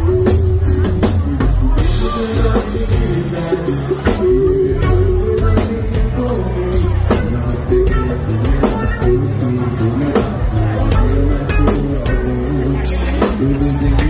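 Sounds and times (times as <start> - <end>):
band with drums: 0.0 - 14.0
man singing into a microphone: 0.0 - 14.0.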